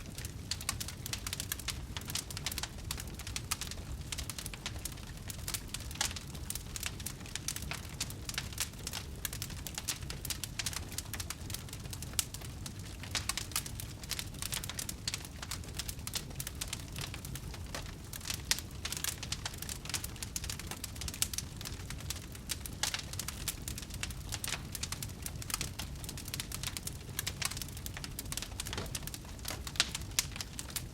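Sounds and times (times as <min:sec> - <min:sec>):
campfire crackling and popping: 0:00.0 - 0:30.9
low rumble of flames: 0:00.0 - 0:30.9.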